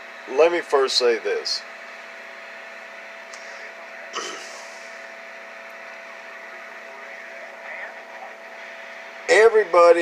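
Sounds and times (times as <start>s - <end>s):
electrical hum and hiss: 0.0s - 10.0s.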